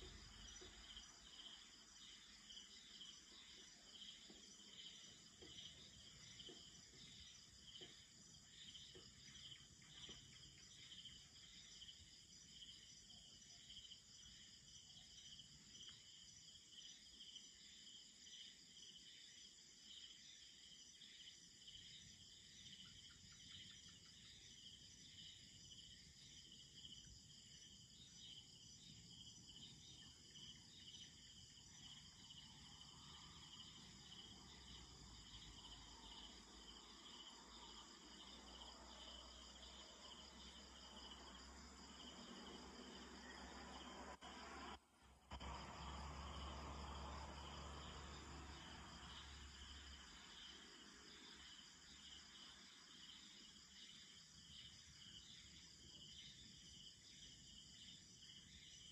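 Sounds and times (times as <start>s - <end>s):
night insects trilling: 0.0s - 58.9s.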